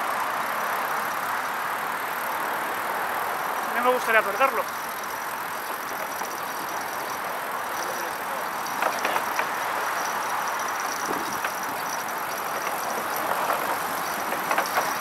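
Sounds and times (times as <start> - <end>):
bicycle riding hiss: 0.0 - 15.0
passing road traffic: 0.0 - 15.0.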